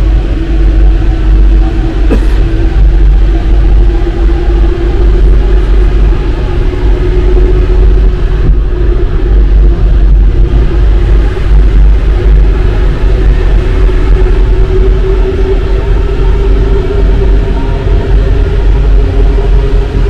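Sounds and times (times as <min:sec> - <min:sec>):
metro train rumbling: 0:00.0 - 0:20.0.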